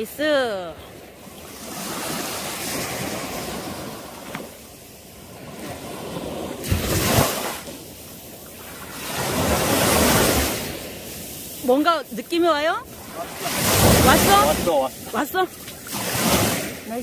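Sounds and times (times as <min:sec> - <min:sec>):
sea waves surf: 0:00.0 - 0:17.0.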